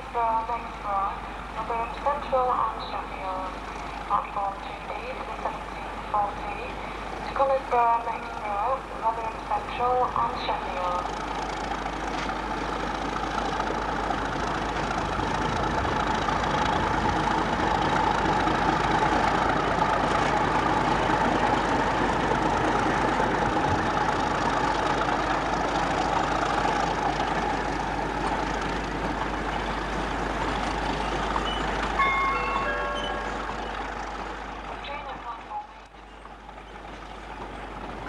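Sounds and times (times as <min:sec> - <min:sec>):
diesel locomotive passing: 0:00.0 - 0:38.0
wagon wheels on rails: 0:01.9 - 0:38.0.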